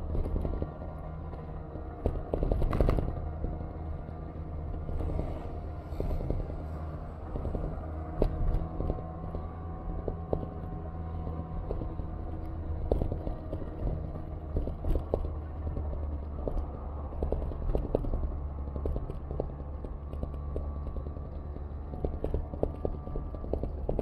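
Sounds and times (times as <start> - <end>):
low traffic rumble: 0.0 - 24.0
small clicks and rattles: 0.0 - 24.0.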